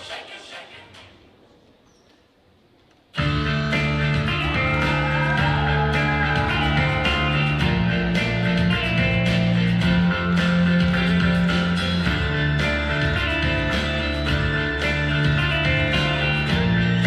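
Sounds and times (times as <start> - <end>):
guitar-led rock music: 3.2 - 17.0.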